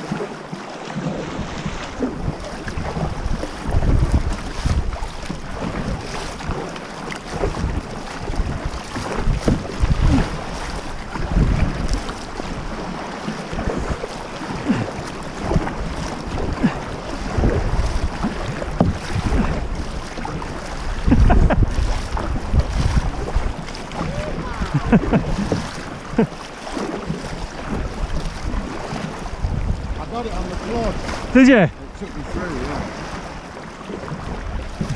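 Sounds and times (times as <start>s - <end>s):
water splashing against kayak: 0.0s - 34.9s
wind rumbling on microphone: 0.9s - 34.9s.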